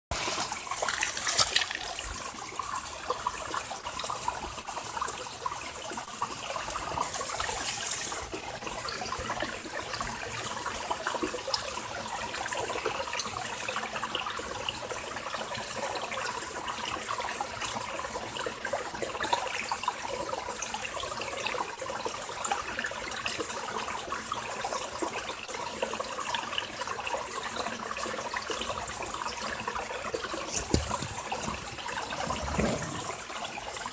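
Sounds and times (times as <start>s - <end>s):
stream water trickling: 0.1s - 33.9s.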